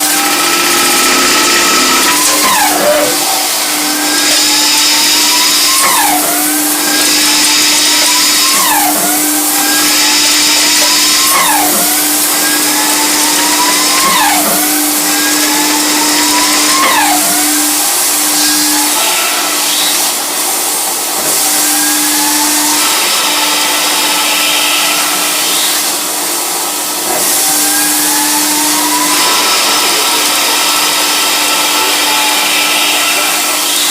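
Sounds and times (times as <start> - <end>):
lathe spindle whine: 0.0 - 33.9.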